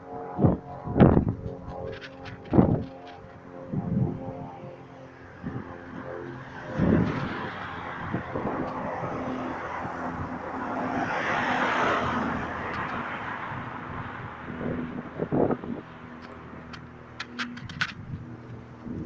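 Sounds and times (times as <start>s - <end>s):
low droning hum: 0.0s - 11.0s, 11.9s - 19.0s
outdoor traffic noise: 0.0s - 19.0s.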